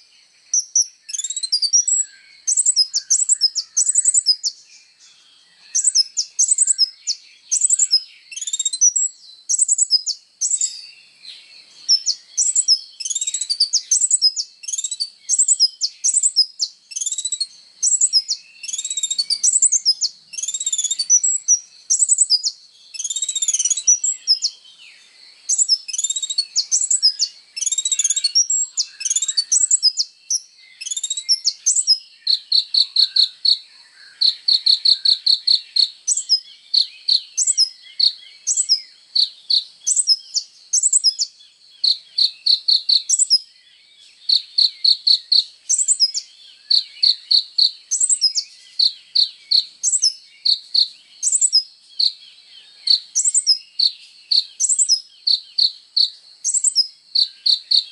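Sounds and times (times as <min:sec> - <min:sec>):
sunbird singing high trills: 0:00.0 - 0:57.9.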